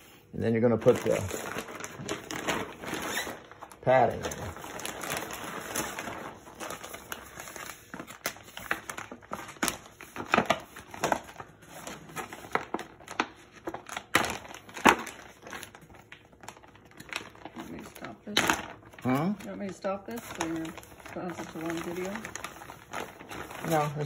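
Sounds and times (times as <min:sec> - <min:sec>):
plastic bags crinkling: 0:00.6 - 0:24.0.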